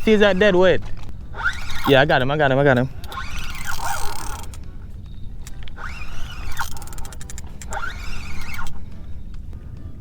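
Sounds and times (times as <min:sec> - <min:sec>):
fishing reel gears whirring: 0:00.0 - 0:09.3
reel clicks: 0:00.0 - 0:09.4
steady low rumble: 0:00.0 - 0:10.0.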